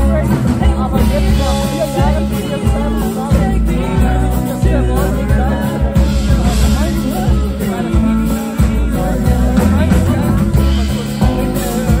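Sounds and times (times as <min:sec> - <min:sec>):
acoustic guitars: 0:00.0 - 0:12.0
drums: 0:00.0 - 0:12.0
upright double bass: 0:00.0 - 0:12.0
woman singing: 0:00.0 - 0:12.0.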